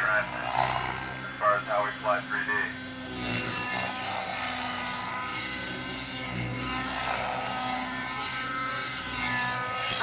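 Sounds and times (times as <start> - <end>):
model helicopter engine and rotor: 0.0 - 10.0.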